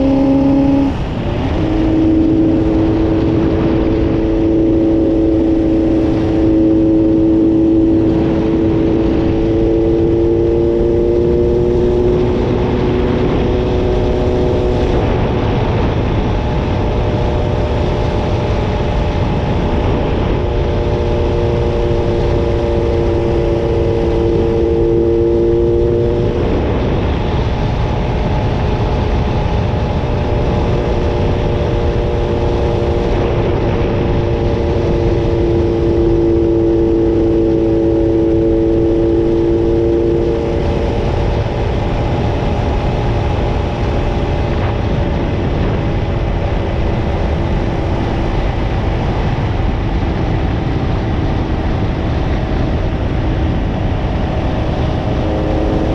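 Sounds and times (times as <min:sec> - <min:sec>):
motorcycle engine running: 0:00.0 - 0:55.9
wind rush: 0:00.0 - 0:55.9.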